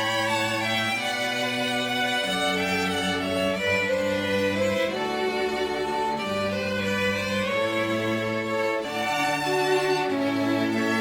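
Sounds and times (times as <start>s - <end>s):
slow string chords: 0.0s - 11.0s.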